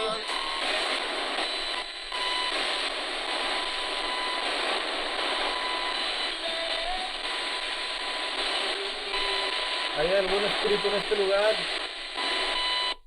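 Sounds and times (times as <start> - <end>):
faint radio tones: 0.0 - 13.0
radio static hiss: 0.0 - 13.0.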